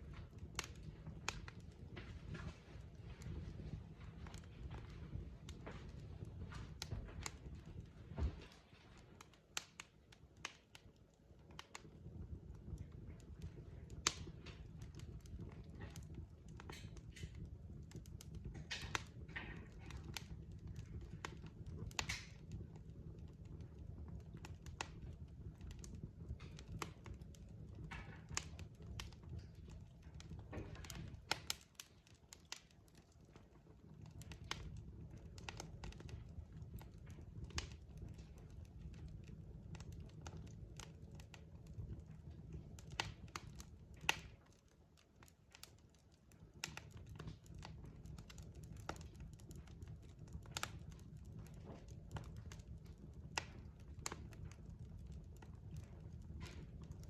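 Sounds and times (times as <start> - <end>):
burning logs rumble: 0.0 - 57.0
wood fire pops and snaps: 0.0 - 57.0.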